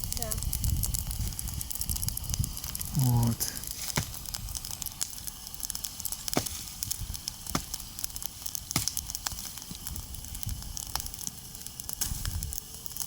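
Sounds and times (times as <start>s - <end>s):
campfire crackling: 0.0s - 13.0s
fire popping: 0.0s - 13.0s.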